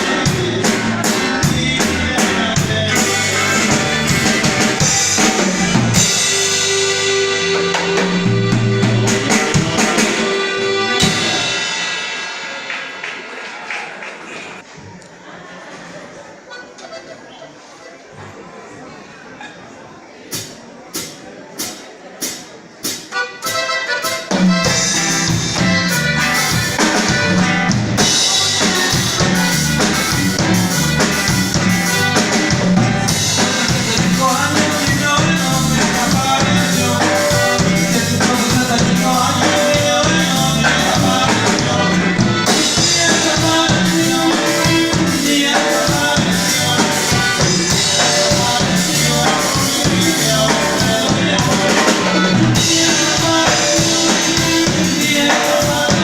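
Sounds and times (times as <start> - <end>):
music with drum beat: 0.0 - 13.2, 20.4 - 56.0.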